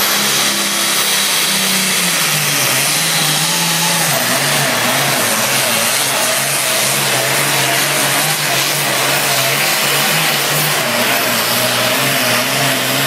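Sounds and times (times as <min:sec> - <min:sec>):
engine running at full throttle: 0:00.0 - 0:13.0.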